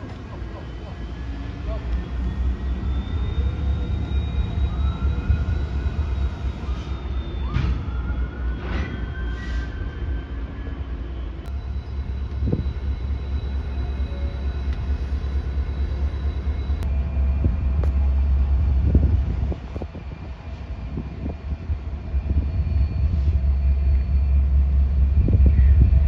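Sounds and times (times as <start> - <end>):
train knocks and clanks: 0.0 - 9.8, 11.4 - 26.0
train rumbling past: 0.0 - 26.0.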